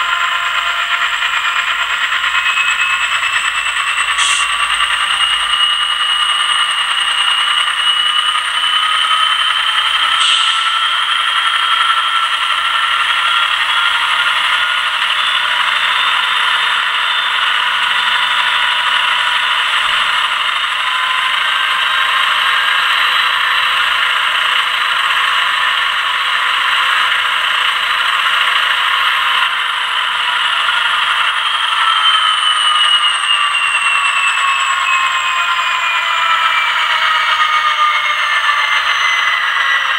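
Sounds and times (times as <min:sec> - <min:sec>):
sampled diesel locomotive engine: 0:00.0 - 0:39.9.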